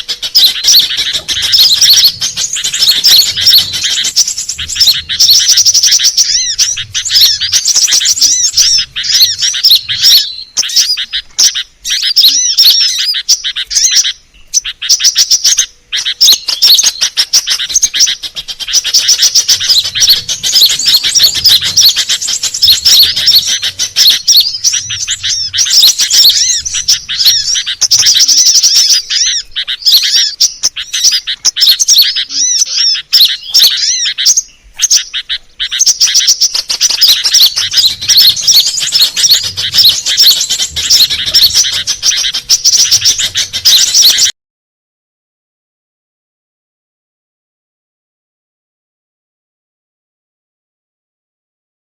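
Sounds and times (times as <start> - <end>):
bird chirping and twittering: 0.0 - 44.4.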